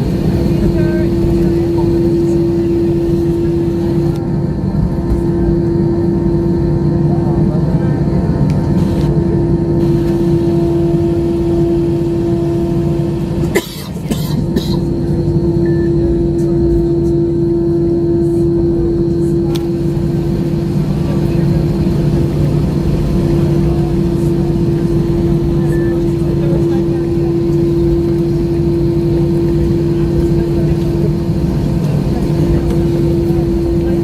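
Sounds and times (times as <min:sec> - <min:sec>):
airliner cabin drone: 0:00.0 - 0:34.0.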